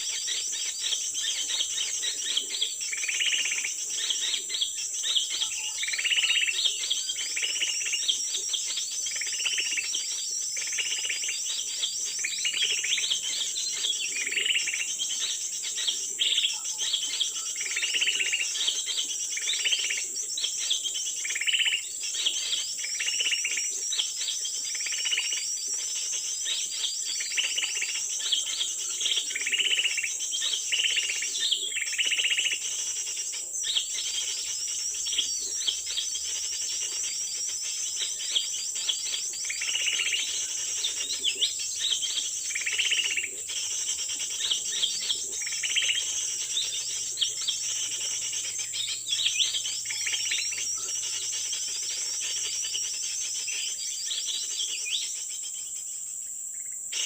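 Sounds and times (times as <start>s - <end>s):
high-pitched insect drone: 0.0s - 57.0s
small birds chirping: 0.0s - 57.0s.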